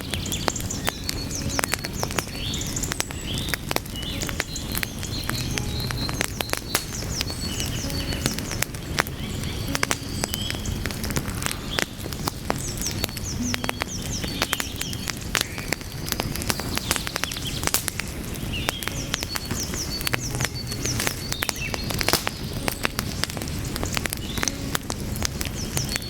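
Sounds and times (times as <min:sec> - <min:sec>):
fire crackling and popping: 0:00.0 - 0:26.0
low rumble of flames: 0:00.0 - 0:26.0.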